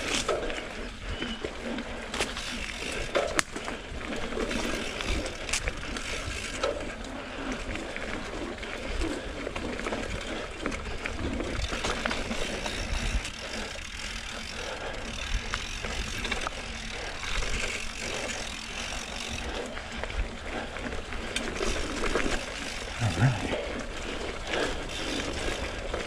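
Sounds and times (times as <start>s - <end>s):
bike chain and frame rattling: 0.0s - 26.0s
bike tyres rolling on dirt: 0.0s - 26.0s.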